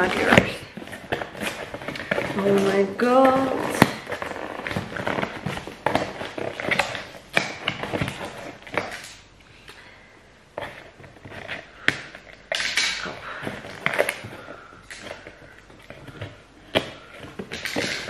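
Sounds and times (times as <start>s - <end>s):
packaging crinkling and ripping: 0.0s - 18.0s.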